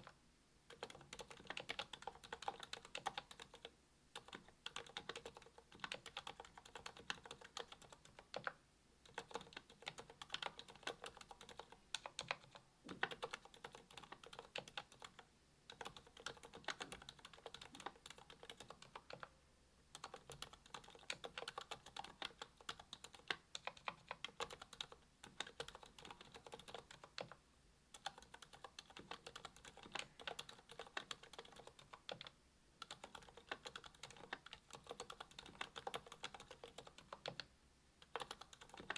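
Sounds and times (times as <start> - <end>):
muted keyboard keystrokes: 0.0 - 19.3, 19.9 - 38.9.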